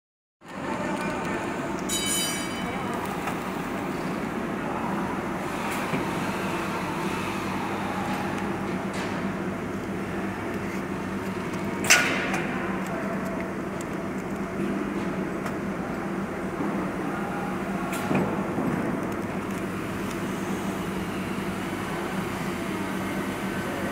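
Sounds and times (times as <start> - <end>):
machinery hum: 0.4 - 23.9.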